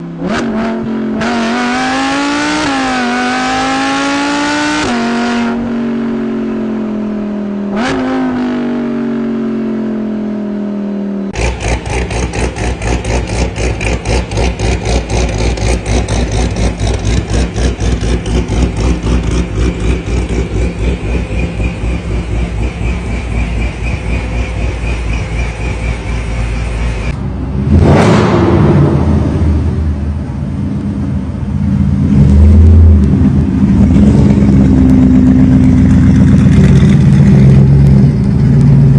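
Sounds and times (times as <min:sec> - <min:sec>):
sports car engine revving: 0:00.2 - 0:09.8, 0:11.3 - 0:38.9.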